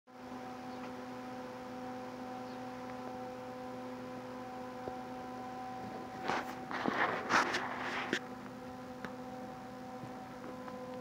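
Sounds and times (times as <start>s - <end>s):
steady hum with overtones: 0.1s - 11.0s.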